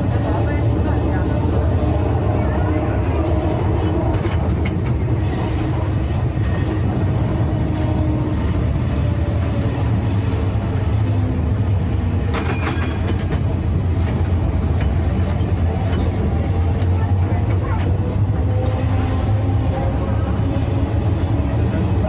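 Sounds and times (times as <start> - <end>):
tram rumbling along track: 0.0 - 22.0.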